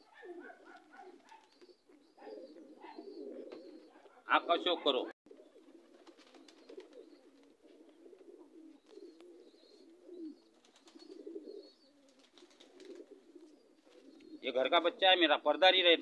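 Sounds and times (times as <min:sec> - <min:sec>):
pigeons cooing: 0:00.0 - 0:15.8.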